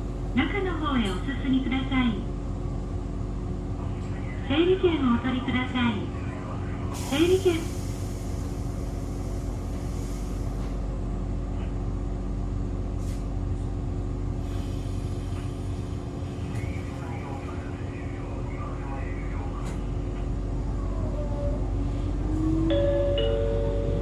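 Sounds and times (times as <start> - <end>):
railcar equipment humming: 0.0 - 24.0.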